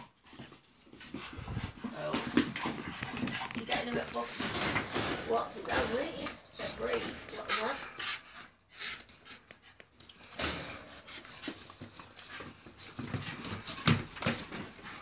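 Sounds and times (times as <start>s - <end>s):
dogs panting: 0.0s - 15.0s
dogs scuffling: 0.0s - 15.0s.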